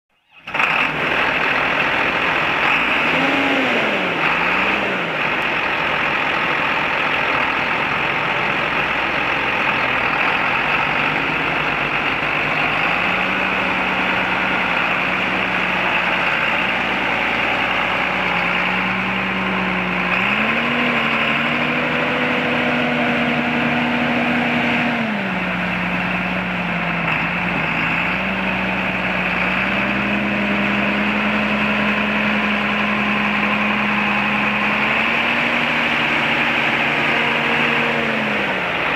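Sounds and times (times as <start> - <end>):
tractor diesel engine idling: 0.2 - 38.9.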